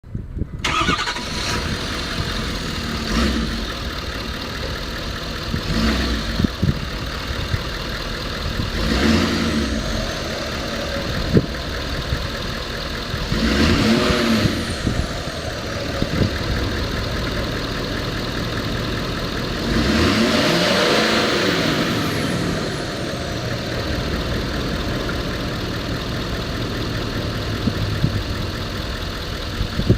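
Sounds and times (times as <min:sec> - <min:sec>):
pickup engine idling and revving: 0:00.4 - 0:29.9
pickup engine starting: 0:00.5 - 0:29.9.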